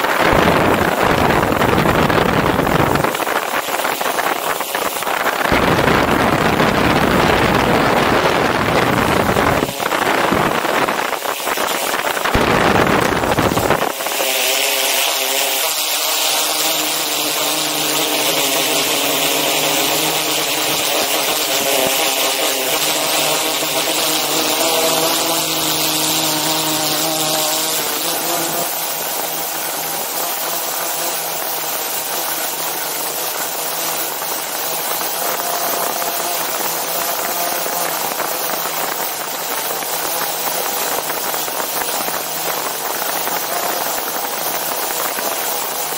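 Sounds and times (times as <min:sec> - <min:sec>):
drone rotors whining: 0:00.0 - 0:45.9
wind on microphone: 0:00.0 - 0:45.9.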